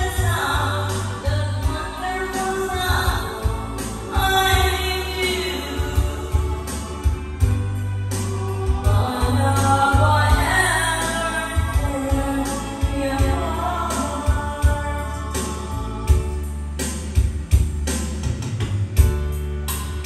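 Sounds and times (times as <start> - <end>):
woman singing into microphone: 0.0 - 16.5
backing track with heavy bass: 0.0 - 20.0.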